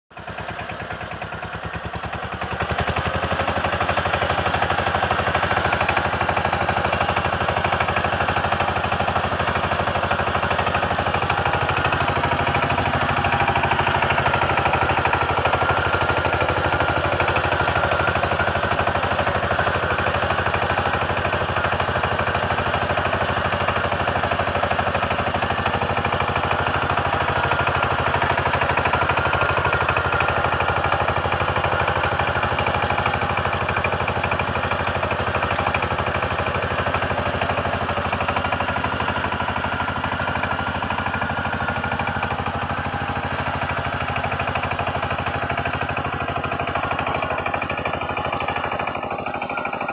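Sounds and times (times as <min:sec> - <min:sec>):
diesel tiller engine knocking: 0:00.1 - 0:49.9.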